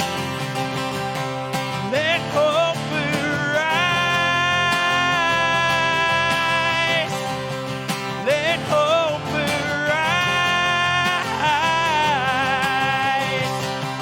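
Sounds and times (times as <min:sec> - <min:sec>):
person singing: 0:01.8 - 0:07.5, 0:08.2 - 0:14.0.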